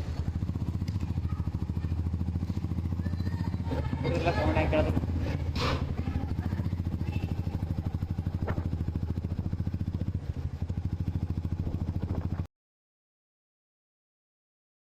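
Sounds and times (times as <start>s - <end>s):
motorcycle engine thumping: 0.0s - 12.5s.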